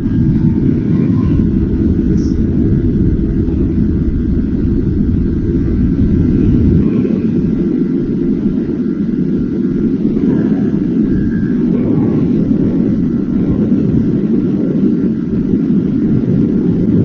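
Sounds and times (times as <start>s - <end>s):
wind rumbling over microphone: 0.0s - 17.0s.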